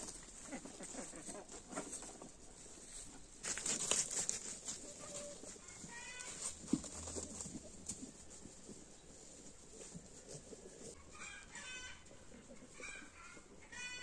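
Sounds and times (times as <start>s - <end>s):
rustling: 0.0s - 11.3s
chicken clucking: 0.1s - 2.6s, 4.6s - 14.0s.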